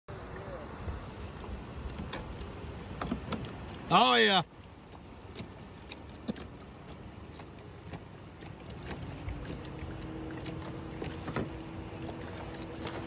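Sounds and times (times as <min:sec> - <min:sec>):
water lapping against kayak hull: 0:00.1 - 0:13.0.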